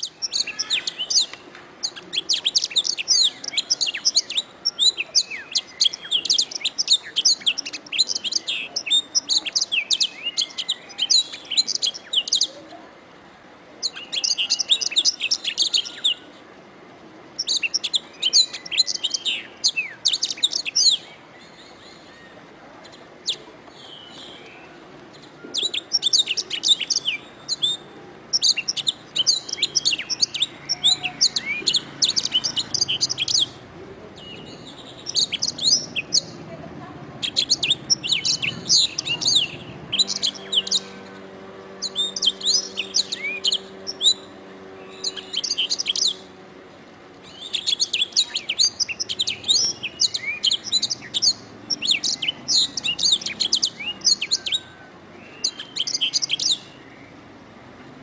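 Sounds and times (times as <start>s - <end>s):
canary singing trills: 0.0s - 12.8s, 13.8s - 16.4s, 17.3s - 57.4s.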